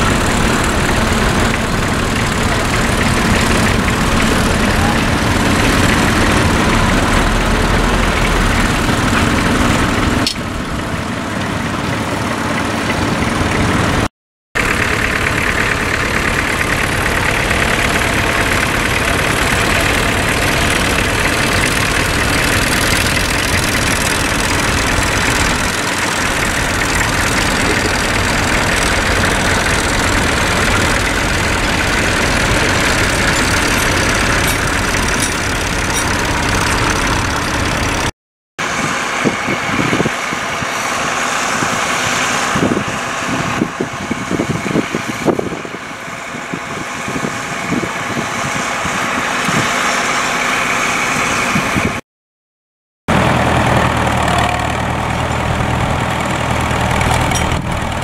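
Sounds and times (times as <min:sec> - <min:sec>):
tractor engines running: 0:00.0 - 0:52.0, 0:53.1 - 0:58.0.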